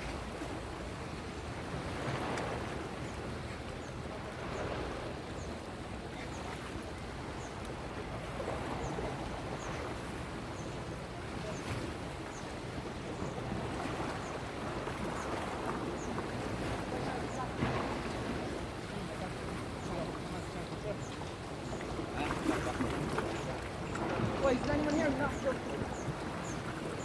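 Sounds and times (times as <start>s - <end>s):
waves washing in: 0.0s - 27.0s.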